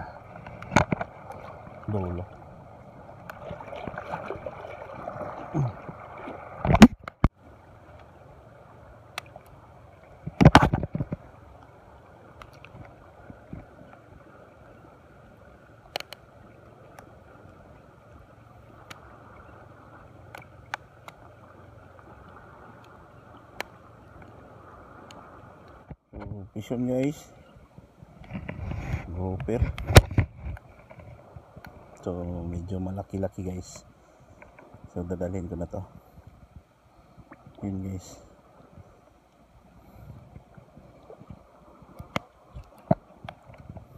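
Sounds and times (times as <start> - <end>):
sea water: 0.0 - 43.9
wind: 0.0 - 43.9.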